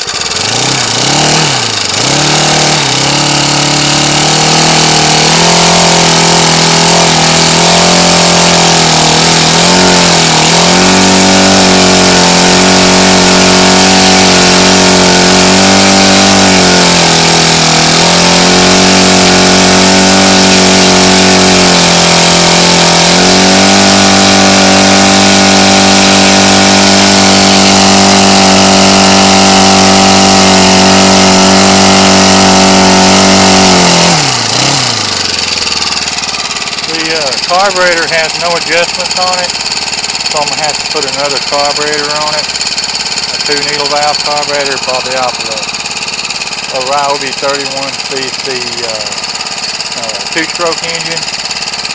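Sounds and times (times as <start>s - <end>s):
trimmer engine running fast: 0.0s - 51.9s.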